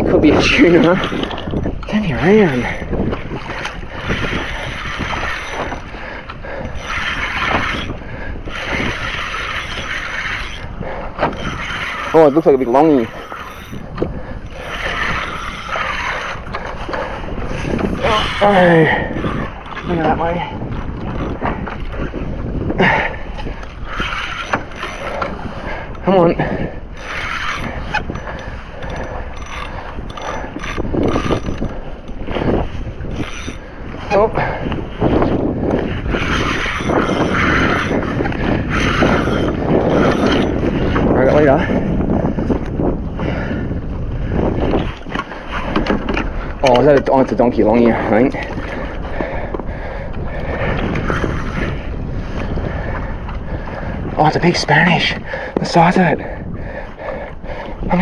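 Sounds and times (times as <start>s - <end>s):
fishing reel cranking: 0.2s - 22.7s, 23.4s - 41.8s, 44.6s - 49.2s, 50.0s - 52.5s.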